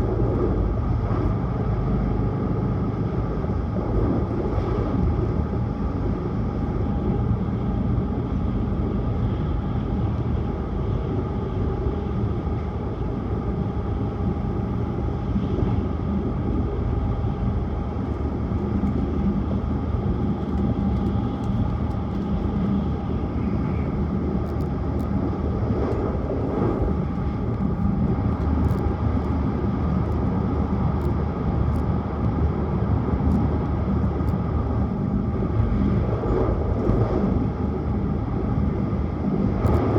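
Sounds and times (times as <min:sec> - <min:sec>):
train running at speed: 0:00.0 - 0:39.9.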